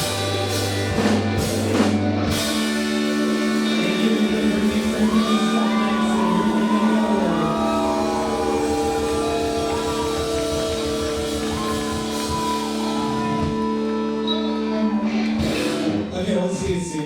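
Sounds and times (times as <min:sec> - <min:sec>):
rock band sustained chord: 0:00.0 - 0:16.2.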